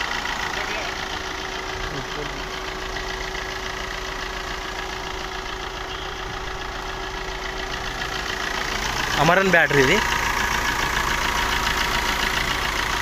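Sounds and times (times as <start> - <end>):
diesel car engine idling: 0.0 - 13.0.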